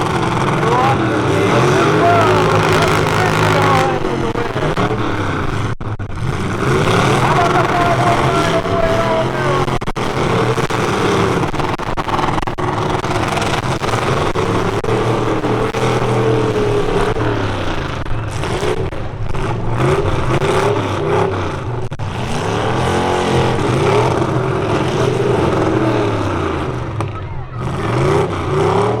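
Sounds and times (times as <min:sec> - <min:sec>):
truck engines racing and revving: 0:00.0 - 0:29.0.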